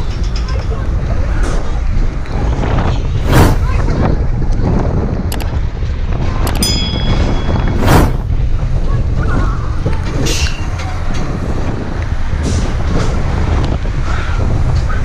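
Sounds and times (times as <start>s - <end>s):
roller coaster rumbling on track: 0.0s - 15.0s
wind buffeting microphone: 0.0s - 15.0s.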